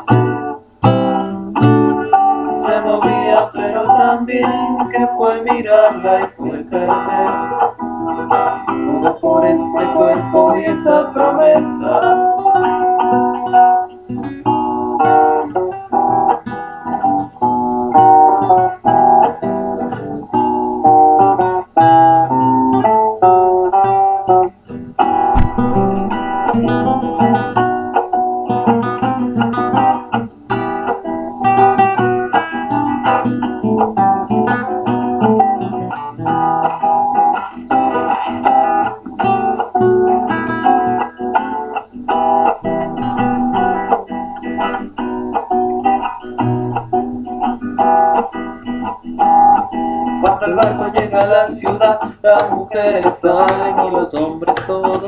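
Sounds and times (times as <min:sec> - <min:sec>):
classical guitar playing: 0:00.0 - 0:55.0.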